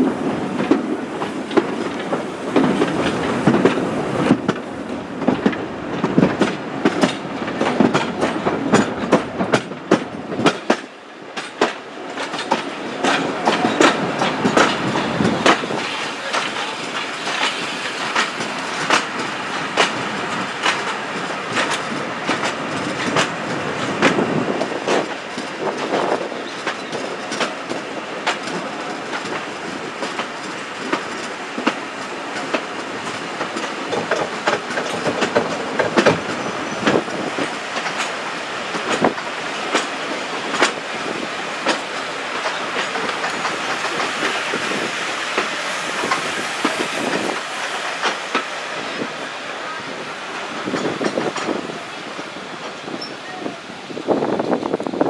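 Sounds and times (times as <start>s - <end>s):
rumble of moving train: 0.0s - 55.0s
train wheels clicking over rail joints: 0.0s - 55.0s.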